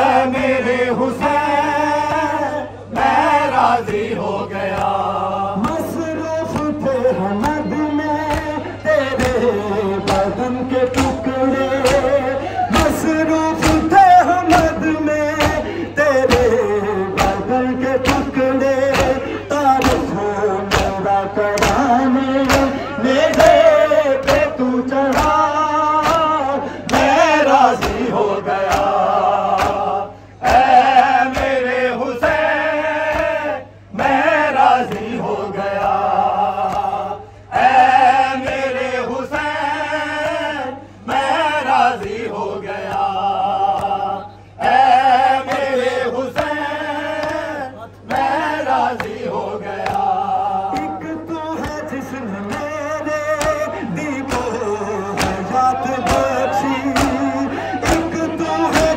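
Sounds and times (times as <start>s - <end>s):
man singing through loudspeaker: 0.0s - 58.9s
rhythmic chest beating slaps: 0.0s - 58.9s.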